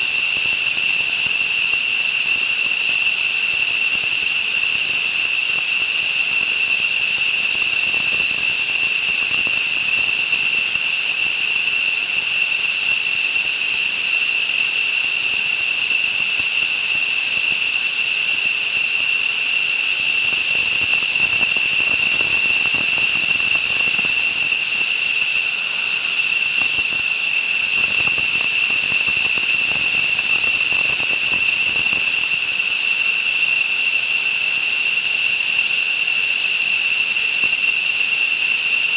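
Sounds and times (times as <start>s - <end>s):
jet turbine engine whine: 0.0s - 38.9s.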